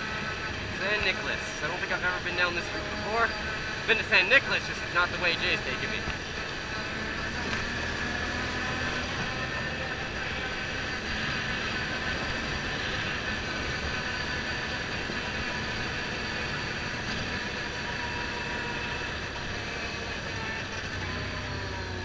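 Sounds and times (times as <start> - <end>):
motorbike engine running: 0.0 - 22.0
road and wind rumble: 0.0 - 22.0.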